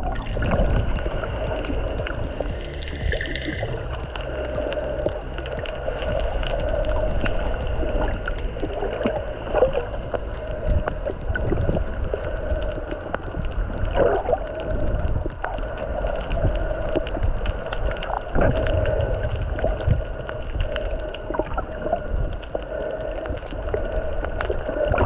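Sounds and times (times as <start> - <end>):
boat engine running: 0.0 - 25.0
crackling clicks: 0.0 - 25.0
water noise: 0.0 - 25.0.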